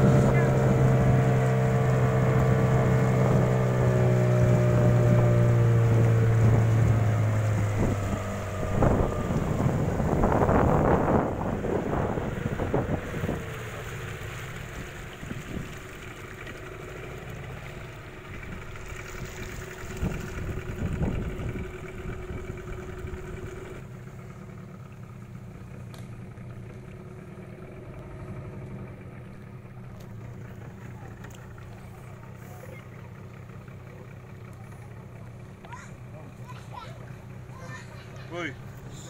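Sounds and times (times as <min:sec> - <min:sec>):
boat motor running: 0:00.0 - 0:39.0.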